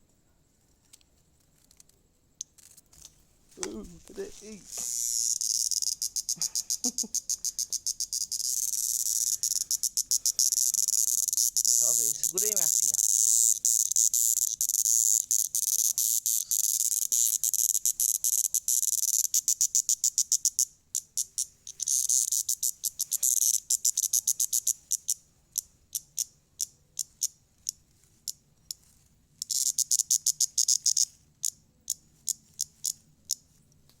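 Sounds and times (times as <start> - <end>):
cicada buzzing and clicking: 0.8 - 34.0.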